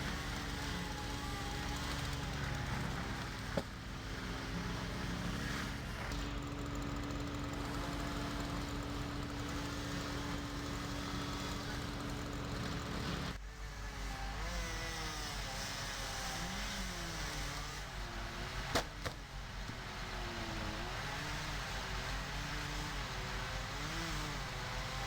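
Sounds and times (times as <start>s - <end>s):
engine running: 0.0s - 13.8s, 15.4s - 25.0s.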